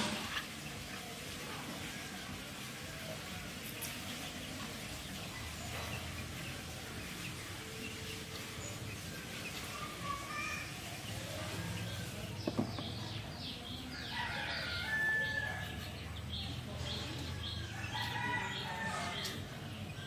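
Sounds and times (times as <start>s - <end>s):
birds chirping: 0.0s - 20.0s
outdoor background noise: 0.0s - 20.0s
falling bird calls: 3.0s - 20.0s.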